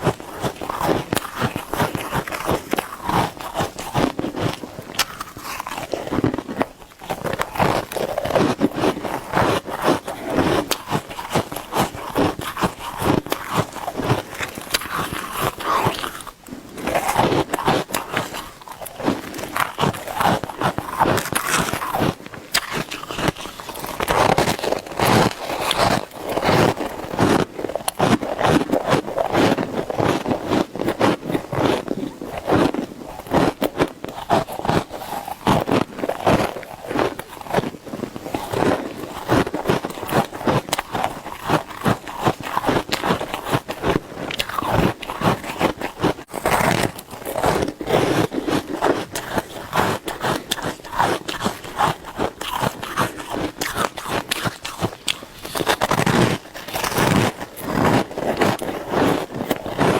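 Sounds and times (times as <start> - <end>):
ice crunching being chewed: 0.0 - 59.9.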